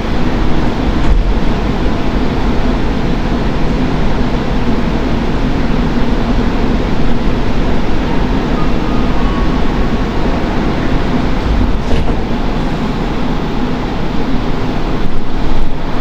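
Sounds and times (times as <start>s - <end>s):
metro train rumble: 0.0s - 16.0s.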